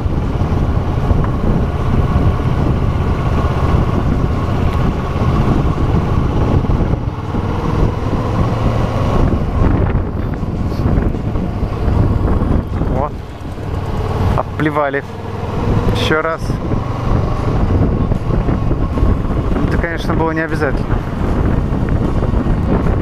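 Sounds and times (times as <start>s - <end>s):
motorcycle engine running: 0.0s - 23.0s
wind noise on microphone: 0.0s - 23.0s.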